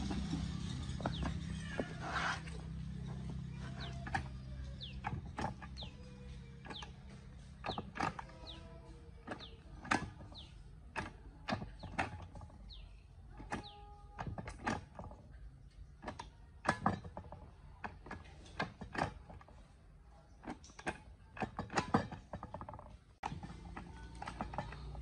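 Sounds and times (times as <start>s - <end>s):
gear lever clicks and clunks: 0.0s - 19.7s, 20.3s - 25.0s.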